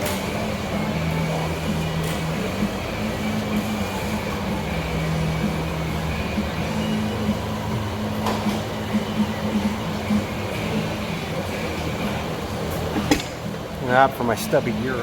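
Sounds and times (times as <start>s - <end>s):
mechanical drone with hum tones: 0.0s - 15.0s.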